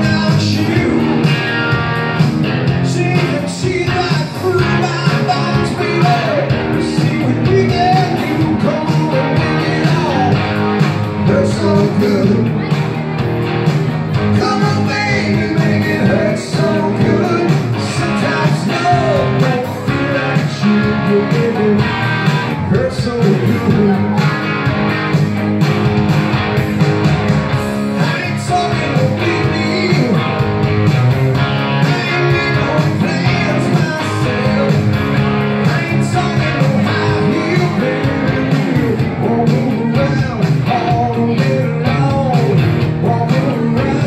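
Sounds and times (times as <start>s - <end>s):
person singing: 0.0s - 1.8s, 2.7s - 13.1s, 14.2s - 24.7s, 27.9s - 30.4s, 31.6s - 44.0s
live rock music with guitars: 0.0s - 44.0s.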